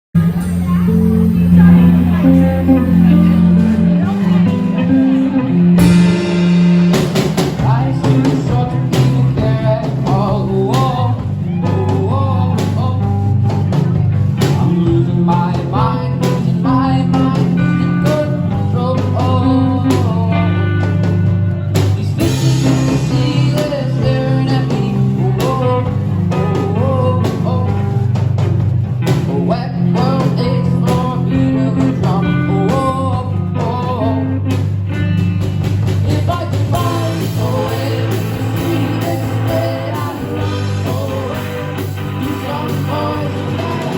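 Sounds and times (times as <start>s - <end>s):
bass line: 0.1s - 43.9s
drums: 0.1s - 43.9s
guitar: 0.1s - 43.9s
person singing lead melody: 0.2s - 28.2s, 29.3s - 34.5s, 36.0s - 43.9s.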